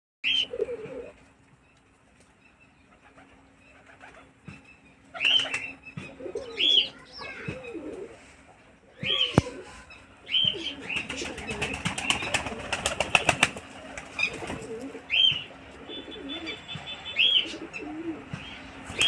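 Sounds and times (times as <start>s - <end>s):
pigeons cooing: 0.2s - 1.3s, 2.9s - 19.0s.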